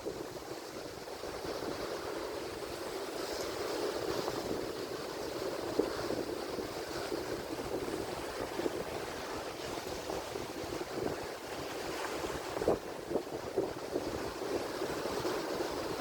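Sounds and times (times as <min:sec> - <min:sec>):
waves breaking: 0:00.0 - 0:16.0.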